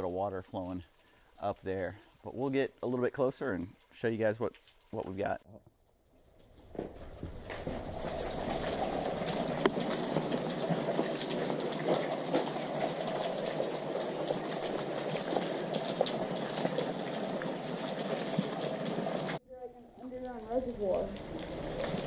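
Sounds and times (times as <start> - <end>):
water dripping off rock: 0.0 - 5.4, 6.4 - 19.4.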